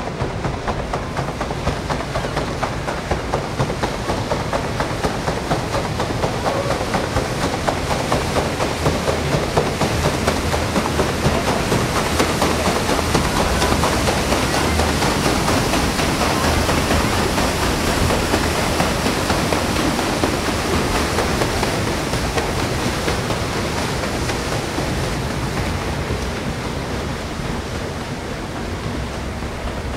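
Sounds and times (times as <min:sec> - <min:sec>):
paddle wheels churning water: 0:00.0 - 0:29.9.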